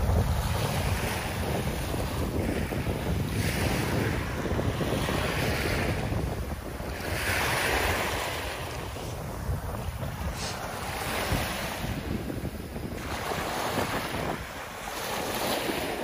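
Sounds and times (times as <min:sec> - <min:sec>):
waves washing on sand: 0:00.0 - 0:16.0
wind on microphone: 0:00.0 - 0:16.0.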